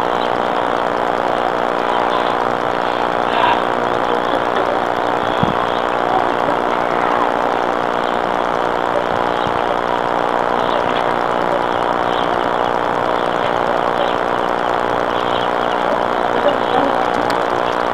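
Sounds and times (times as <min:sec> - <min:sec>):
engine idling: 0:00.0 - 0:17.9.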